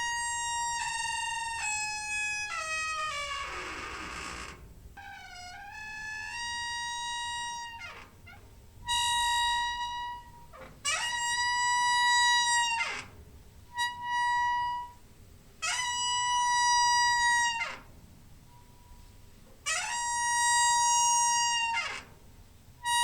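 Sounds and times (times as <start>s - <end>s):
door hinge squeaking: 0.0s - 15.0s, 15.6s - 17.9s, 18.5s - 22.2s.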